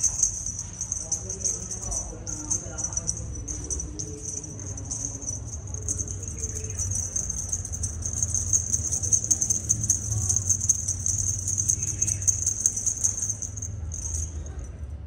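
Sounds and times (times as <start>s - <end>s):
low hum: 0.0s - 14.9s.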